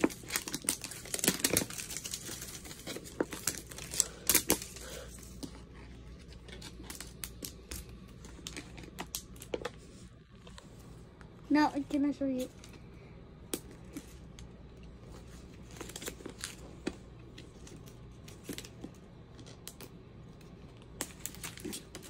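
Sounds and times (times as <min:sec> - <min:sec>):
wrapping crinkling and tearing: 0:00.0 - 0:09.7, 0:13.8 - 0:22.0.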